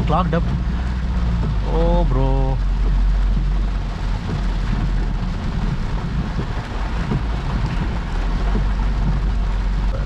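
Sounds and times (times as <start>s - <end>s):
car driving rumble: 0.0s - 10.0s
heavy rain on car roof: 0.0s - 10.0s.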